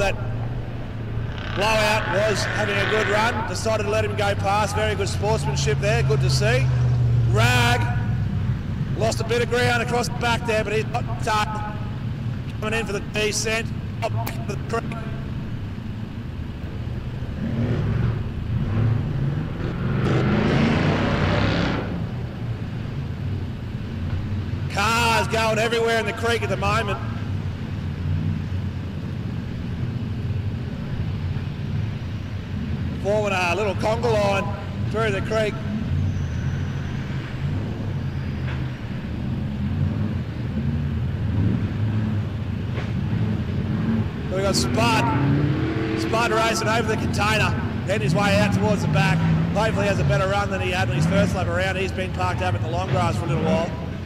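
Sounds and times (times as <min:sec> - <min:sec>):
truck engine revving: 0:00.0 - 0:15.8, 0:16.6 - 0:54.0
harsh rush of noise: 0:00.0 - 0:54.0.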